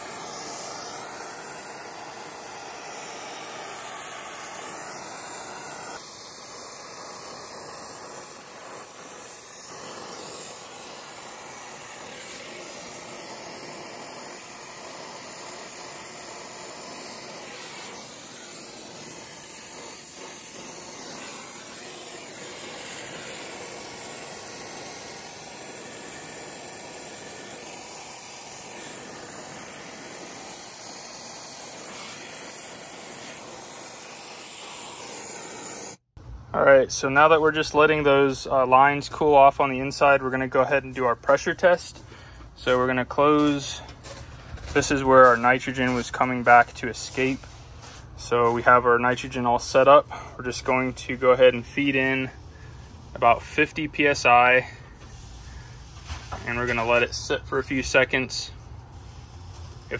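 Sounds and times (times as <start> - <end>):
torch flame hissing: 0.0 - 36.2, 40.3 - 59.9.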